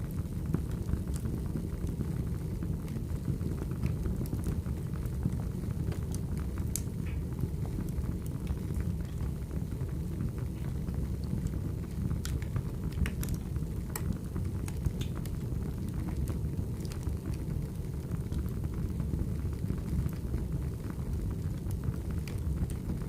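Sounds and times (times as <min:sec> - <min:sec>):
fire burning: 0:00.0 - 0:23.0
logs crackling and popping: 0:00.1 - 0:23.0.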